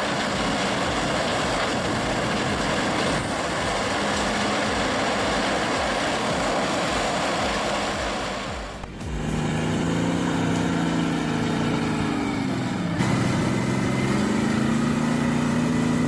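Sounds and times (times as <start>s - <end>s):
brush shredder grinding roar: 0.0s - 16.0s
engine hum: 0.0s - 16.0s.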